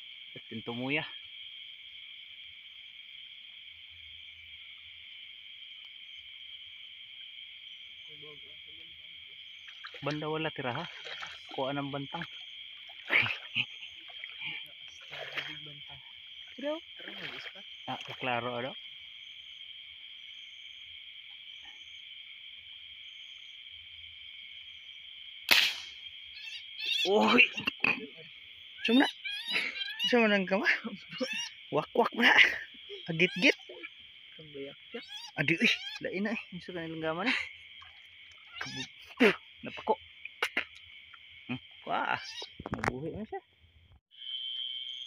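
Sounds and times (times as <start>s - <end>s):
crickets buzzing: 0.0s - 45.0s
insect chorus drone: 0.0s - 45.0s.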